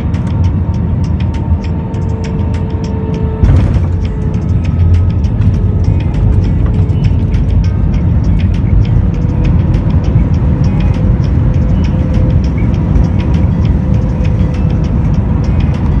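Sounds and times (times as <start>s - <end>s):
jet engine and wheel rumble: 0.0s - 16.0s.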